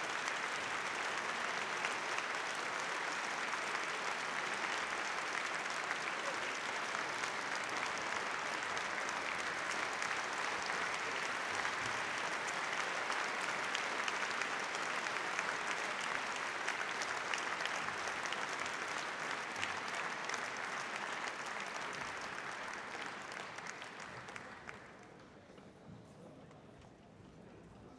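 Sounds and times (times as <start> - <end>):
large audience applauding: 0.0 - 25.5.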